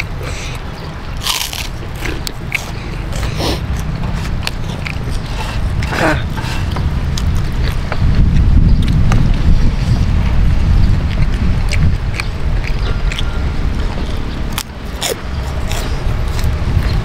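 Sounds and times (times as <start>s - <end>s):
crunching and chewing food: 0.0s - 17.0s.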